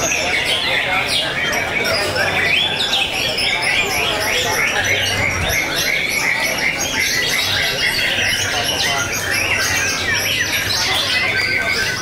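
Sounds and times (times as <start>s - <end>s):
birds singing chirps and whistles: 0.0s - 12.0s.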